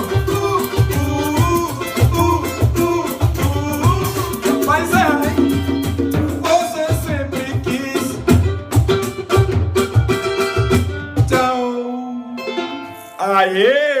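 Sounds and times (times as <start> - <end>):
samba band playing: 0.0 - 11.5.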